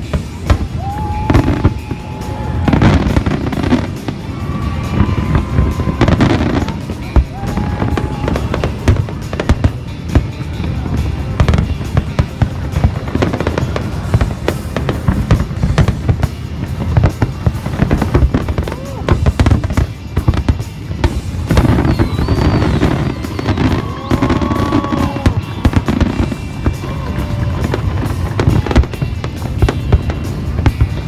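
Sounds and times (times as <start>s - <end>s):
fireworks bangs and crackling: 0.0s - 31.0s
music playing: 0.0s - 31.0s.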